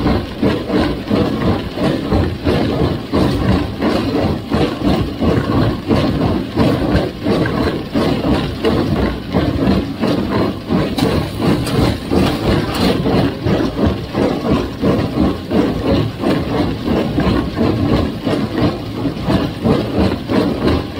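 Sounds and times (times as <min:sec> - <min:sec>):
baler working rhythmically: 0:00.0 - 0:20.9
tractor engine running: 0:00.0 - 0:20.9.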